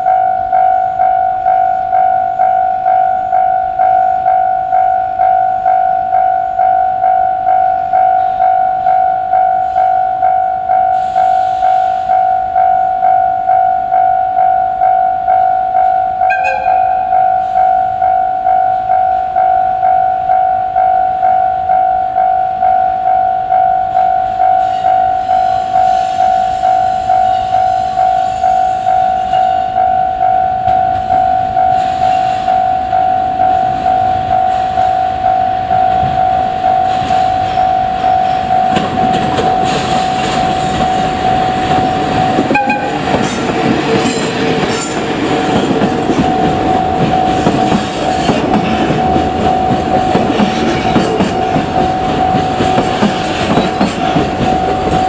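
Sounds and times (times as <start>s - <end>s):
freight train rumble and clickety-clack: 0.0s - 55.0s
level-crossing warning bell dinging: 0.0s - 55.0s.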